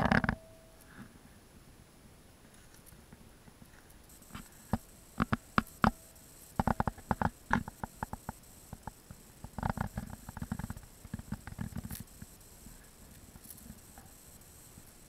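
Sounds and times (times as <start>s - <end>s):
sharp clicks and crackles: 2.5s - 15.0s.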